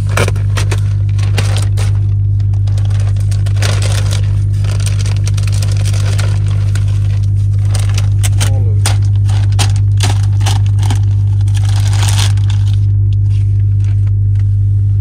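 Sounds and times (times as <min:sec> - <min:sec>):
plastic sheeting crinkling: 0:00.0 - 0:14.2
loud steady low hum: 0:00.0 - 0:15.0.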